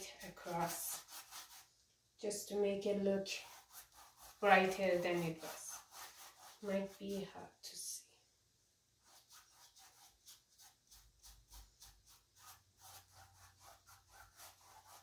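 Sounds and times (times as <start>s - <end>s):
paintbrush rubbing on canvas: 0.0s - 1.7s, 2.8s - 7.5s, 9.0s - 15.0s.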